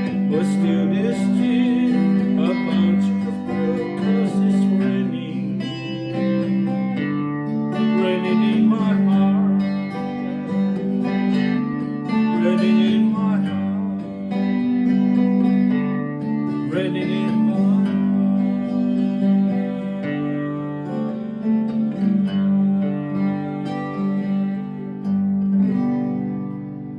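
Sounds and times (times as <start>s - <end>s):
acoustic guitar music: 0.0s - 26.9s.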